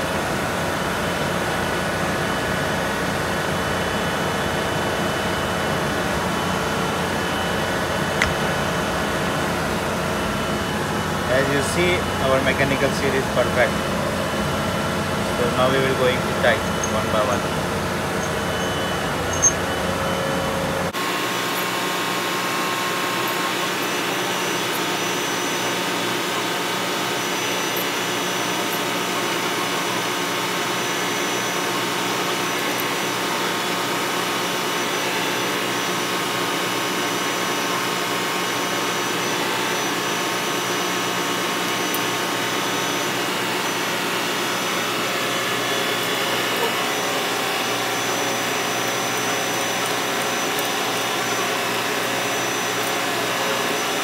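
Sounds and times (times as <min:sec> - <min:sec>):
ship engine room machinery drone: 0:00.0 - 0:54.0.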